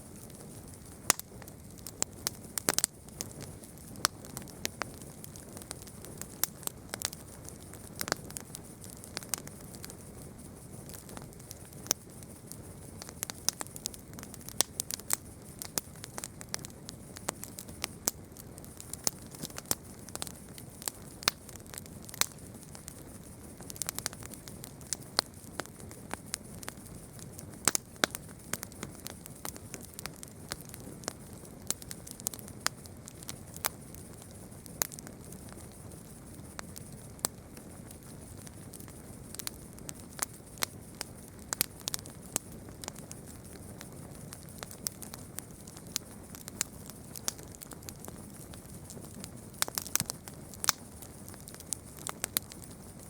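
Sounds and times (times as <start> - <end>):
campfire popping and snapping: 0.0 - 53.0
fire hissing: 0.0 - 53.0.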